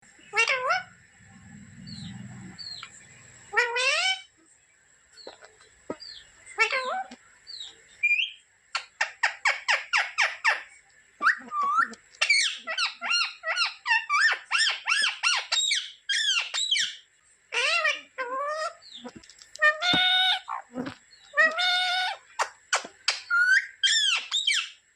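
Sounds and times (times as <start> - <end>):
parrot calling and chattering: 0.2 - 1.0, 3.5 - 4.3, 5.2 - 24.8.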